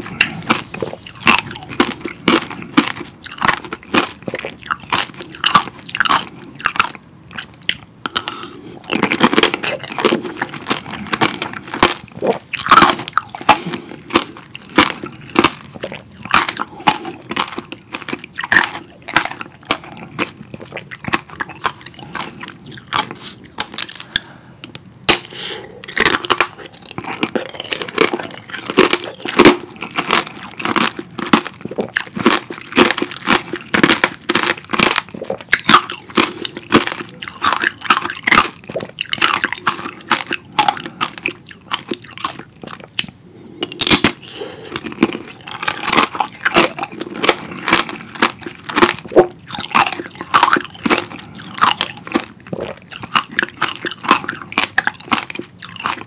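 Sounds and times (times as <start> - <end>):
crunchy sugar coating chewing: 0.0 - 24.4, 25.1 - 56.0.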